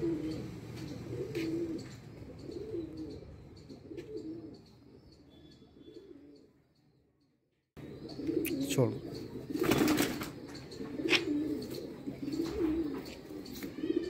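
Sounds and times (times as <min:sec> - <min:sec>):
pigeons cooing: 0:00.0 - 0:06.6, 0:07.8 - 0:14.0.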